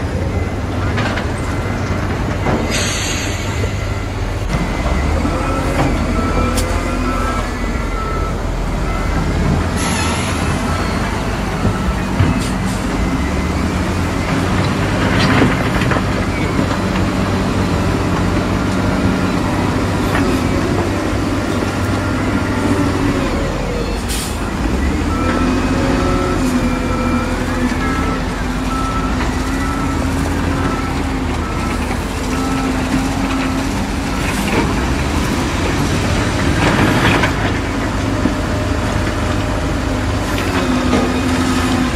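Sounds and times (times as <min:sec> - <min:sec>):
heavy machinery engines running: 0:00.0 - 0:41.9
reversing beeper: 0:00.0 - 0:41.9.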